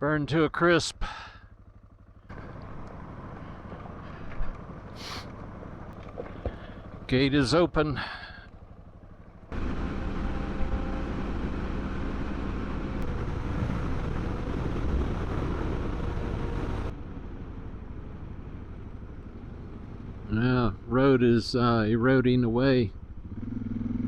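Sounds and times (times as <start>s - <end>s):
motorcycle engine running: 0.9s - 21.0s, 22.3s - 24.0s
wind and road noise: 0.9s - 24.0s.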